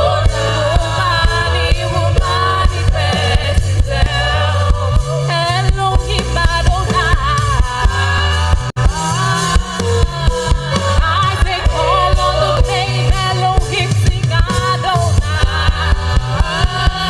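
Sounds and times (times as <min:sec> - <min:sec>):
band with beat and bass: 0:00.0 - 0:17.0
voices singing gospel: 0:00.0 - 0:17.0.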